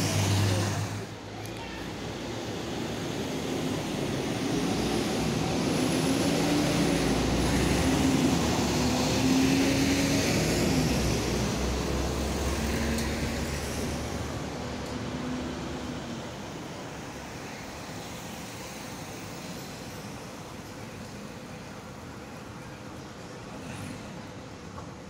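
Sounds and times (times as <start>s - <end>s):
heavy traffic driving past: 0.0s - 25.0s.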